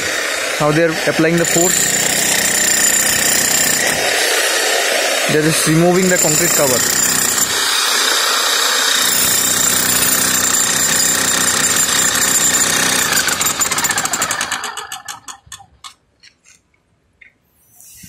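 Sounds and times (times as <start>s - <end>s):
demolition hammer chipping concrete: 0.0s - 4.4s, 5.3s - 15.6s.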